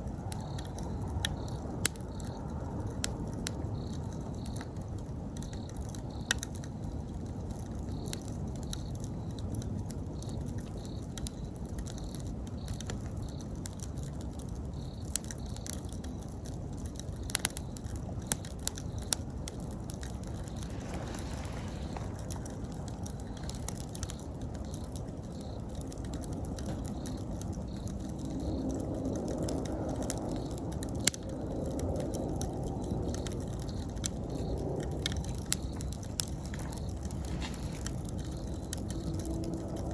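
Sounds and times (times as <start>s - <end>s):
campfire crackling: 0.0s - 39.9s
insects chirping: 0.0s - 39.9s.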